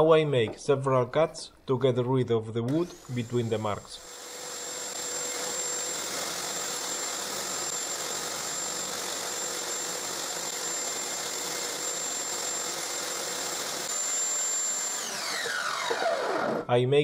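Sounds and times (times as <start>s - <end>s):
table saw whining: 2.7s - 16.7s.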